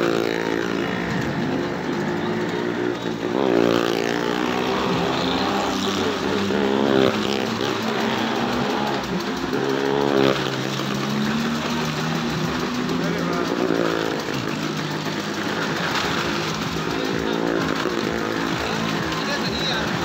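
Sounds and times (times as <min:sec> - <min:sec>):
car and motorcycle engines revving: 0:00.0 - 0:20.0.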